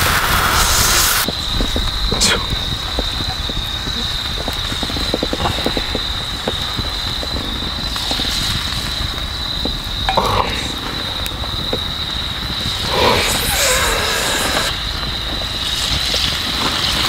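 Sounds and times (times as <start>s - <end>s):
campfire crackling and popping: 0.0s - 17.0s
high insect trill: 0.0s - 17.0s.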